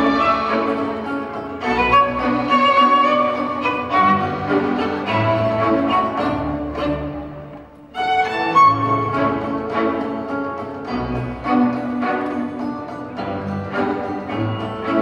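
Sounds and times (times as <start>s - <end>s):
orchestral music with bowed strings: 0.0s - 15.0s.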